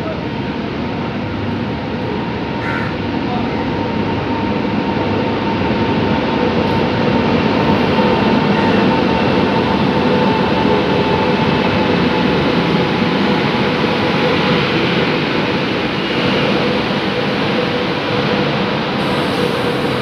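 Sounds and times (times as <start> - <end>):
train rolling past: 0.0 - 20.0.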